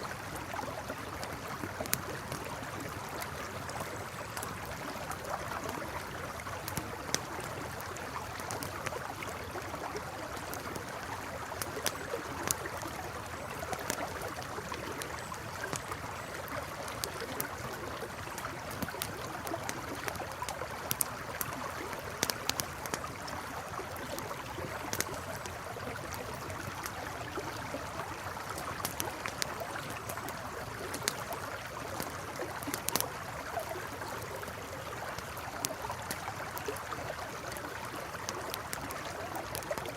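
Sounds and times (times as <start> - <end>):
river gurgling: 0.0 - 39.9
campfire crackling: 0.1 - 39.9.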